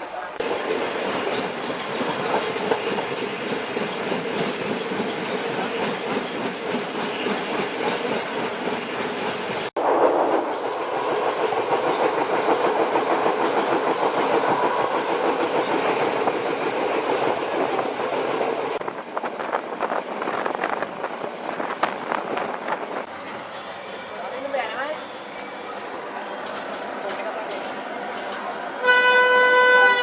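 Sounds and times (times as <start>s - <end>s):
train wheels on rails: 0.0s - 30.0s.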